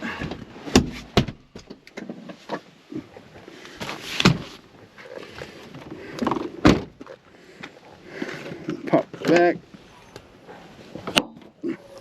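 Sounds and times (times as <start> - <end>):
things handled in vehicle cargo area: 0.0 - 12.0.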